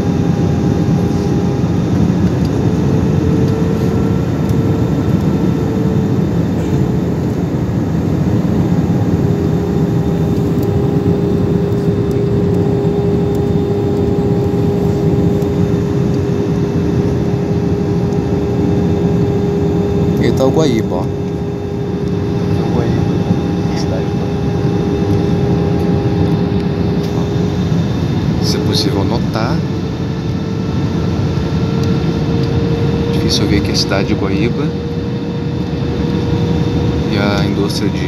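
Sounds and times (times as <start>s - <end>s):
whining tones: 0.0s - 37.5s
aircraft cabin air rush: 0.0s - 38.0s.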